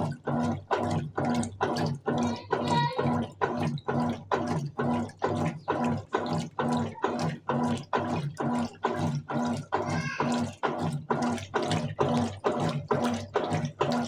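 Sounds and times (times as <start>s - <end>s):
washing machine motor humming: 0.0s - 14.0s
water sloshing in tub: 0.0s - 14.0s.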